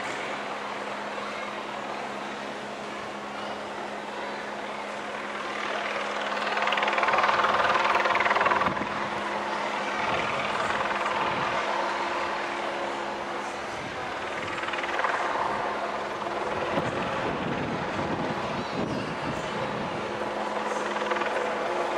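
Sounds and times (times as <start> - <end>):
helicopter rotor beat: 0.0 - 21.9
helicopter turbine whine: 0.0 - 21.9.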